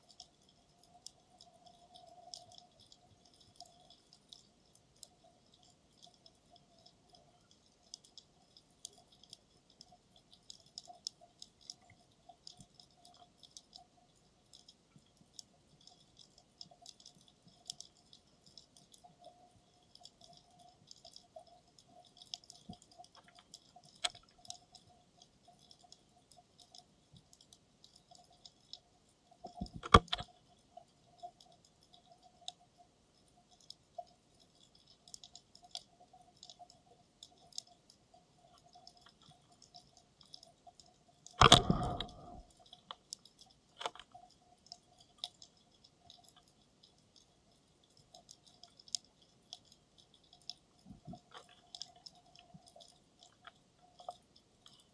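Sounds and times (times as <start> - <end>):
faint crackling reef clicks: 0.0 - 54.9
faint steady hum: 0.0 - 54.9.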